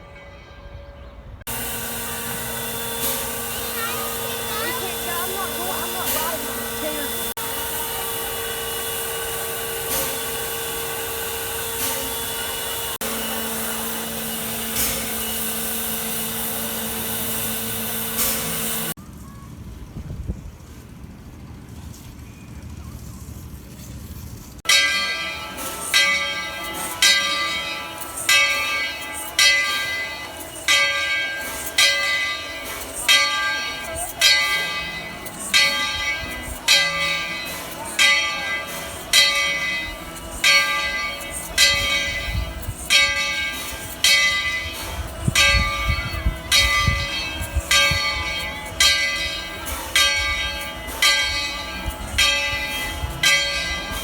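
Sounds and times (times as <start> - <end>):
steam locomotive bell ringing: 0.0 - 19.0, 24.7 - 54.0.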